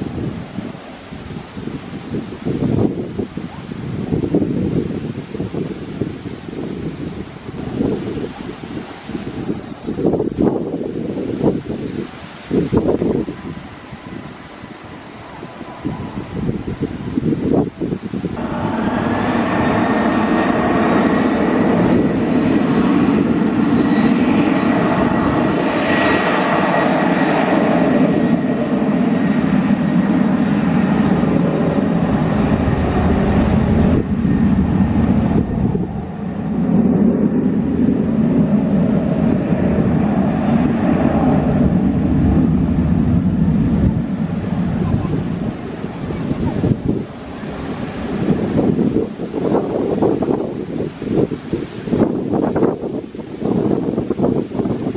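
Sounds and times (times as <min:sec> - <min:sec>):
jet engines at takeoff power: 0:00.0 - 0:54.9.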